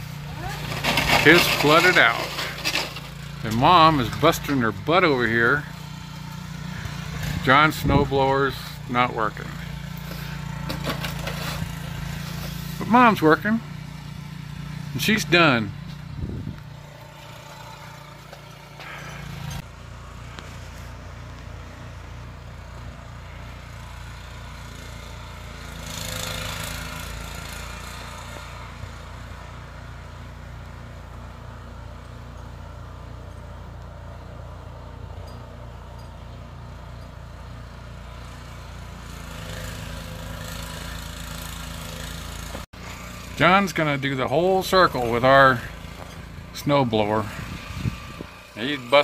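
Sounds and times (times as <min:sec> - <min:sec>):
snowblower engine running: 0:00.0 - 0:49.0.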